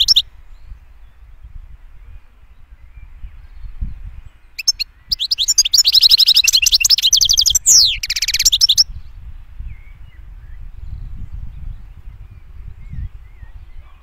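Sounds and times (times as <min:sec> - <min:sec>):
finch twittering song: 0:00.0 - 0:14.0.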